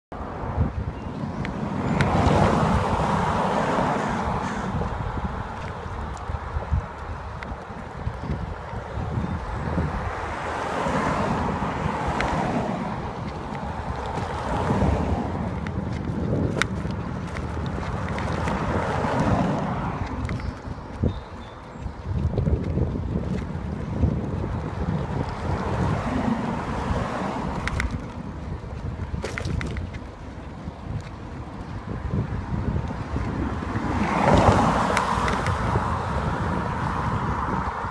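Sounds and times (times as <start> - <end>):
car passing with tyre noise: 0.1 - 37.9
wind buffeting microphone: 0.2 - 37.9.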